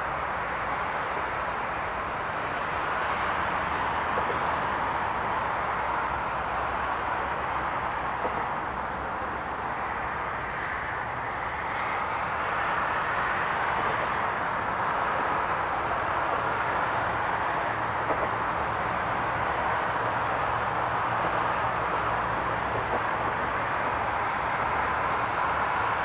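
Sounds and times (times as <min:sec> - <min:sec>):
distant city traffic roar: 0:00.0 - 0:26.0.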